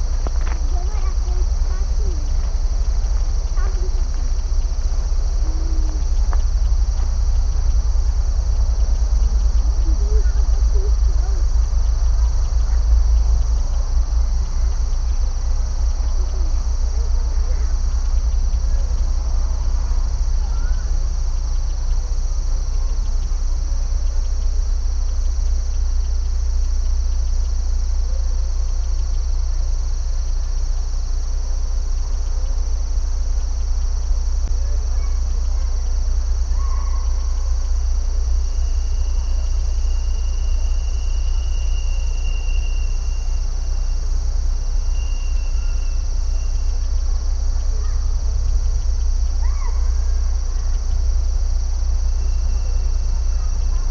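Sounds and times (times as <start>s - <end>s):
faint bird chirps: 0.0s - 53.9s
insects trilling: 0.0s - 53.9s
low rumble: 0.0s - 53.9s.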